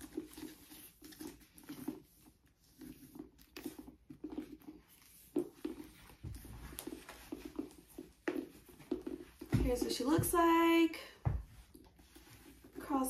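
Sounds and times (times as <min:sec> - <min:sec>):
leather handbag handled: 0:00.0 - 0:10.7
clothing rustling against bag: 0:00.0 - 0:13.0.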